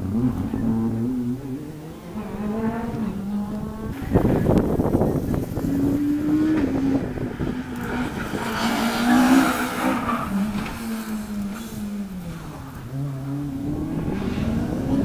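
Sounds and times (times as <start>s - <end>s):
exhaust crackling: 0.0s - 15.0s
rally car engine revving: 0.0s - 15.0s.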